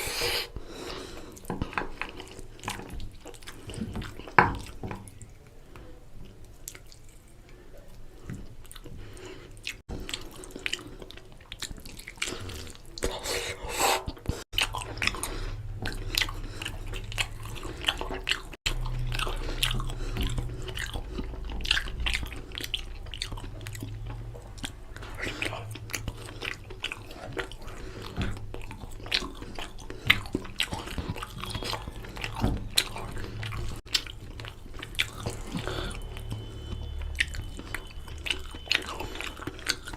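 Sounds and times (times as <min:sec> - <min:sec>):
chewing and wet mouth sounds: 0:00.0 - 0:39.9.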